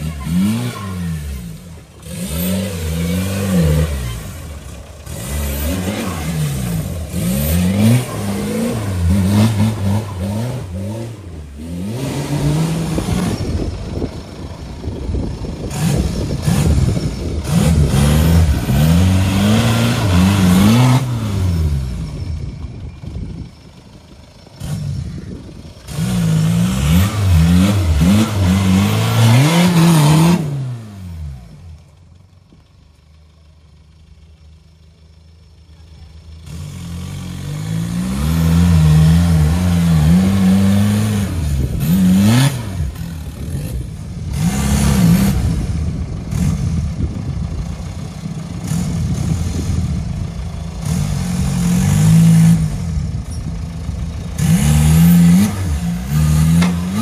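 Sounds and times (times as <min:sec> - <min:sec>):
diesel engine revving hard: 0:00.0 - 0:14.2, 0:15.4 - 0:22.5, 0:24.6 - 0:31.7, 0:36.4 - 0:53.3, 0:54.0 - 0:57.0.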